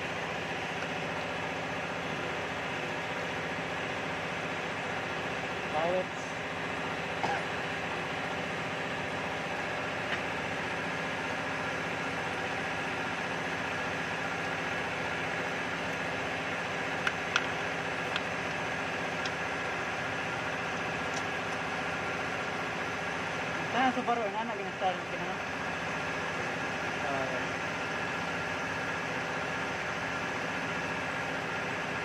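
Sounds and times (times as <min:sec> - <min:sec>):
motor or fan humming: 0:00.0 - 0:32.0.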